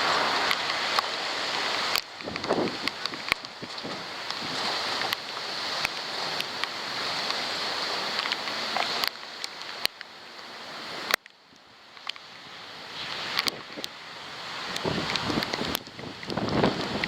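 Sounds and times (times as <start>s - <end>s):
raindrops ticking on camera: 0.0s - 12.4s, 13.0s - 17.0s
rain and wind hissing: 0.0s - 17.0s.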